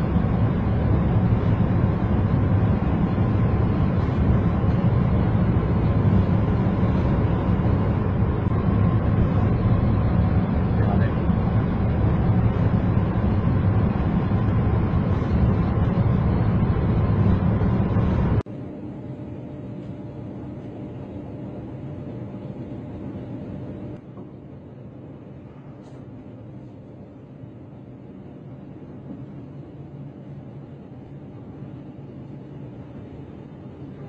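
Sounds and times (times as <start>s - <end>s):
high-speed train running: 0.0s - 34.0s.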